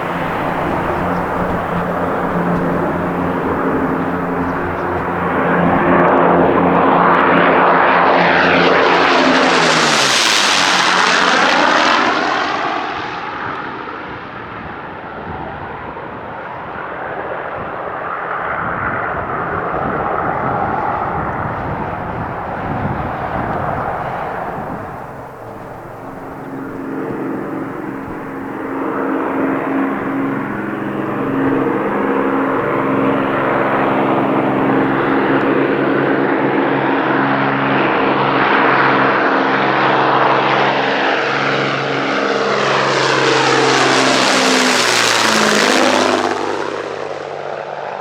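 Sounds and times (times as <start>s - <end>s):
propeller aircraft flying past: 0.0s - 48.0s.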